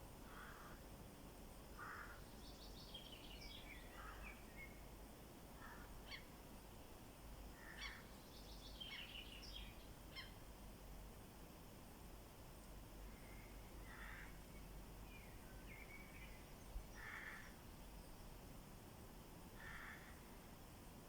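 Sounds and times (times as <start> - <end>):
low background hiss: 0.0 - 21.0.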